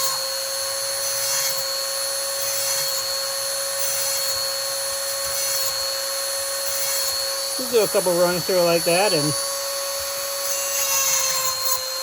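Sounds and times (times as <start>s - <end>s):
chainsaw sharpener grinding whine: 0.0s - 12.0s.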